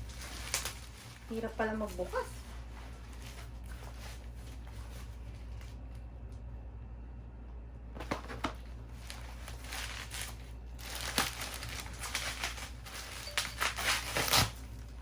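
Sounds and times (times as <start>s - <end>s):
plastic packaging crinkling and tearing: 0.0s - 5.9s, 8.0s - 15.0s.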